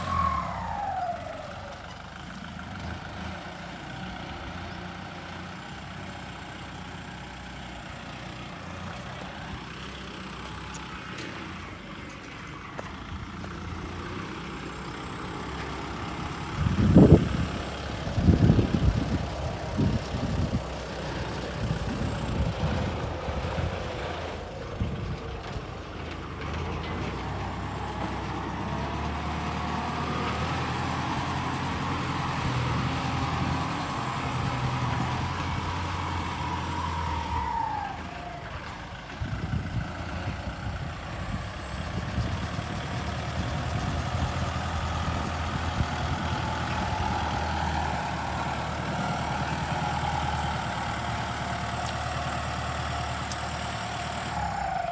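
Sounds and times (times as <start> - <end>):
engine whine: 0.0 - 54.9
tractor engine running under load: 0.0 - 54.9.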